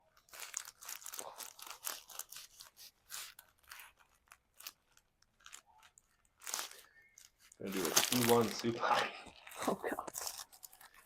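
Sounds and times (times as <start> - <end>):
rustling and crinkling: 0.0 - 11.0.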